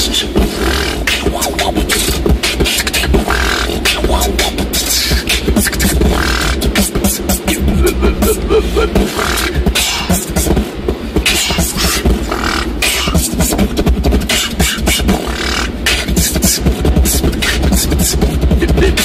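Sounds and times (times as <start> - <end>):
vocal beatboxing: 0.0 - 19.0.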